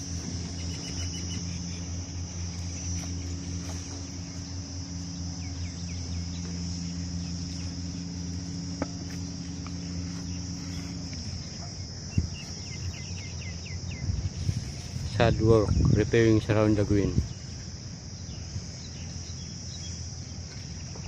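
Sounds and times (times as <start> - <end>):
insects droning: 0.0 - 21.0
low steady hum: 0.0 - 21.0.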